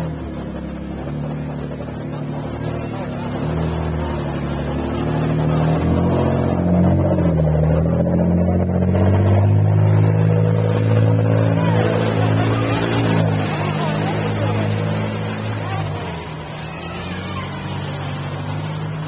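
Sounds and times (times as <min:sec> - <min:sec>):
vehicle engine drone: 0:00.0 - 0:19.0.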